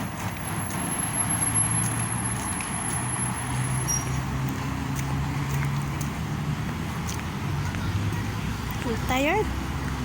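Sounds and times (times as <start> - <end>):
road traffic noise: 0.0 - 10.0
vehicle engine hum: 0.0 - 10.0.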